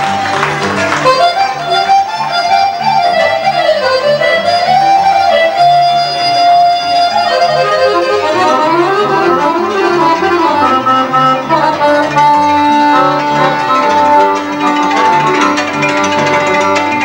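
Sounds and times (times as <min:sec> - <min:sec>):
accordion melody: 0:00.0 - 0:17.0
cimbalom: 0:00.0 - 0:17.0
double bass line: 0:00.0 - 0:17.0.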